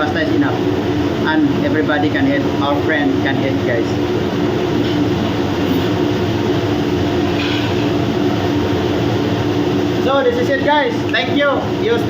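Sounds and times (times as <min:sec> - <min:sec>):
machinery rumble: 0:00.0 - 0:12.0.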